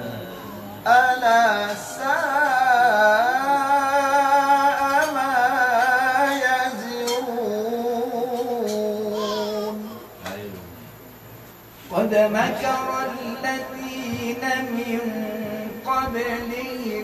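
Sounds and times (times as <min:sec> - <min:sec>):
man reciting melodically: 0:00.0 - 0:10.7, 0:11.8 - 0:17.0.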